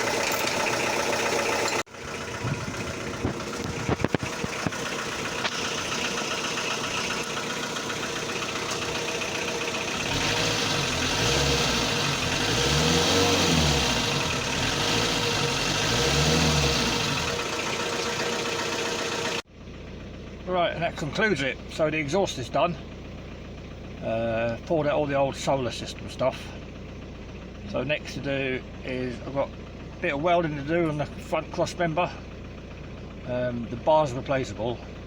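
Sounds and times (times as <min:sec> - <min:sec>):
motorhome engine idling and revving: 0:00.0 - 0:35.0.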